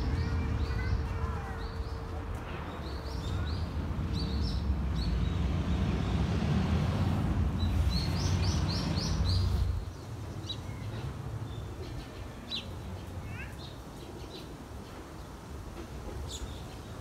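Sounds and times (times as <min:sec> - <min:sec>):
small birds chirping: 0:00.0 - 0:06.3, 0:07.6 - 0:15.0.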